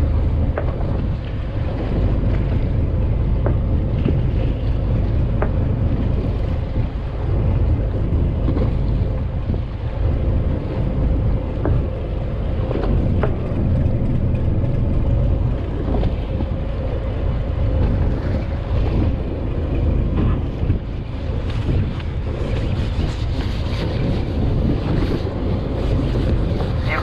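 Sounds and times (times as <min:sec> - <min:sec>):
boat engine rumbling: 0:00.0 - 0:27.0
wind buffeting microphone: 0:00.0 - 0:27.0.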